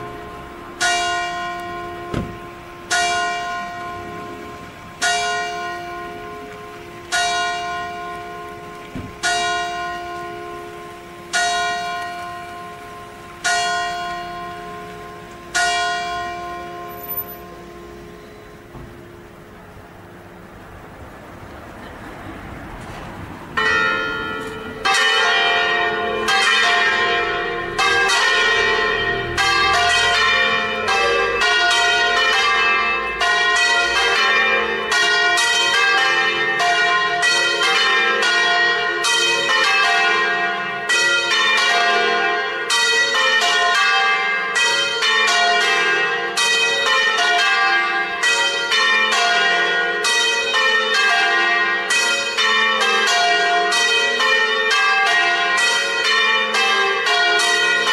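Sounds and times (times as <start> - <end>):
church bells ringing a peal: 0.0 - 20.7, 21.7 - 57.9.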